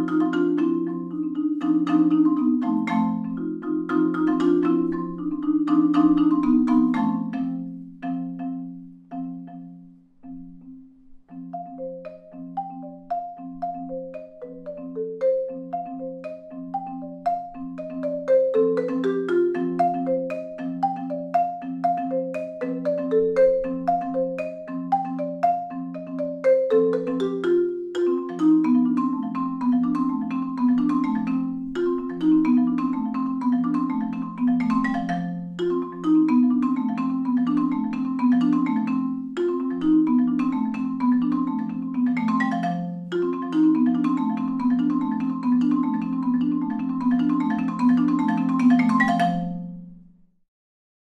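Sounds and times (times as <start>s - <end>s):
solo marimba: 0.0s - 50.2s.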